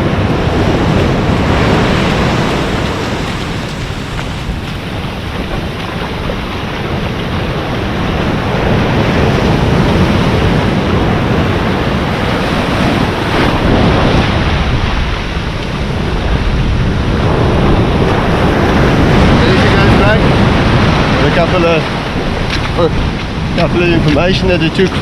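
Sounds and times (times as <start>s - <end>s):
ocean surf washing on shore: 0.0s - 25.0s
wind buffeting microphone: 0.0s - 25.0s.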